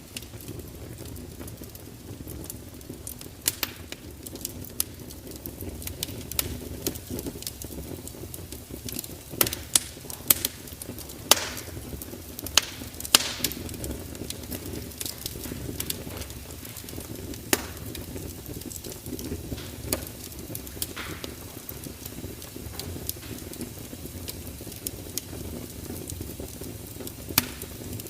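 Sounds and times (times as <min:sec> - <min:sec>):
fire crackling and popping: 0:00.0 - 0:28.0
low fire rumble: 0:00.0 - 0:28.0.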